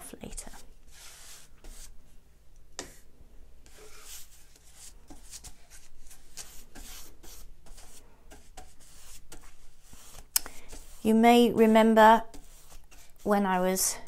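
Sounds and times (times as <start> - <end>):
scratchy paintbrush strokes: 0.0 - 2.0, 2.8 - 13.9.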